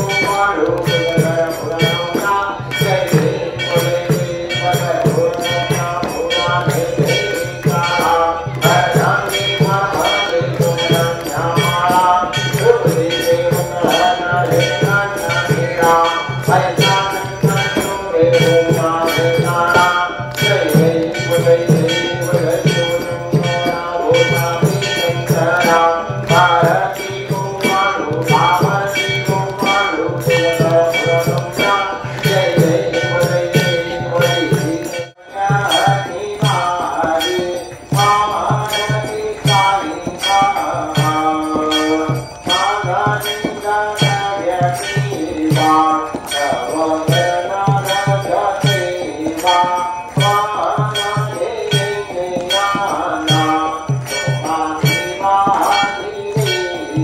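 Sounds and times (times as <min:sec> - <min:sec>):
bells jingling: 0:00.0 - 0:57.0
dholak drum beat: 0:00.0 - 0:57.0
group devotional singing: 0:00.0 - 0:57.0.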